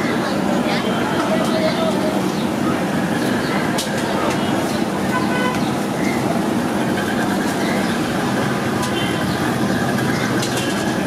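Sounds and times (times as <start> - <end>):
busy street traffic roar: 0.0 - 11.0
indistinct voices: 0.0 - 11.0.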